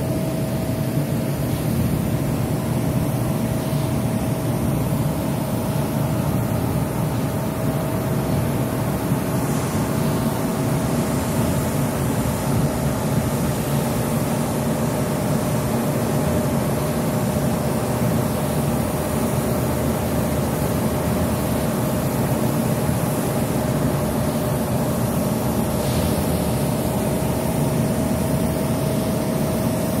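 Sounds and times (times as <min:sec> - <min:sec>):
constant machine whine: 0:00.0 - 0:30.0.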